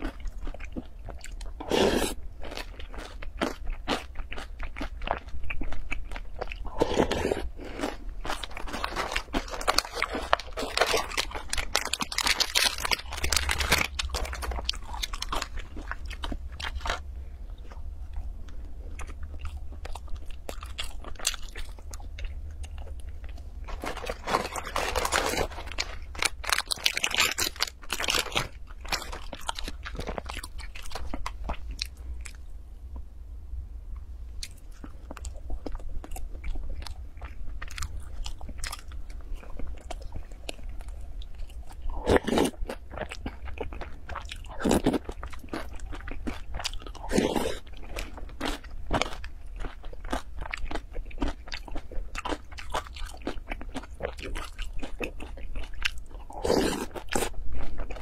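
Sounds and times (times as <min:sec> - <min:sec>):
crunchy food being chewed: 0:00.0 - 0:32.5, 0:34.4 - 0:58.0.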